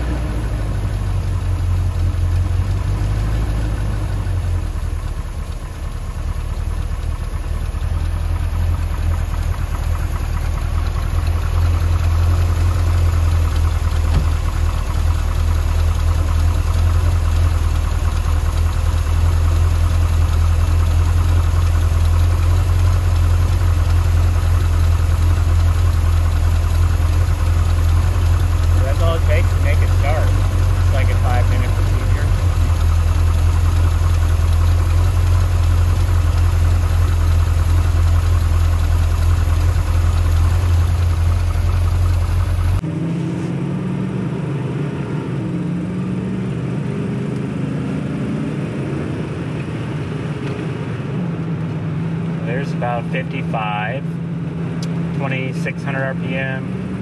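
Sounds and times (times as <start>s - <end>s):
car engine idling: 0.0s - 42.9s, 48.8s - 57.0s.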